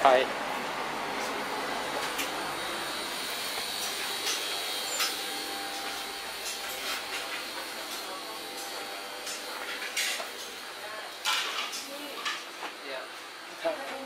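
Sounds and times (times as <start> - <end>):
ventilation rushing hiss: 0.0 - 14.0.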